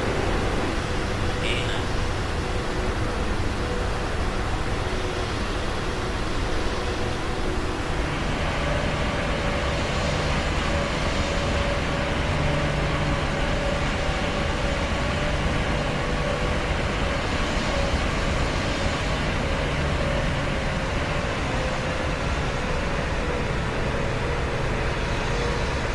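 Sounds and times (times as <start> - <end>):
airplane engines roaring: 0.0 - 25.9.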